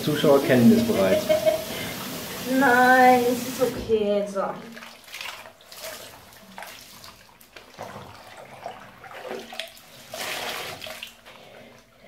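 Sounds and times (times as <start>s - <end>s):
water sloshing in bathtub: 0.4s - 12.0s.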